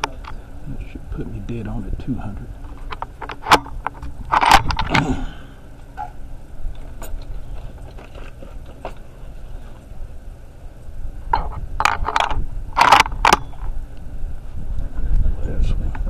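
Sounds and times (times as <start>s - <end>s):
wind rumble on microphone: 0.0s - 10.1s, 10.9s - 16.0s.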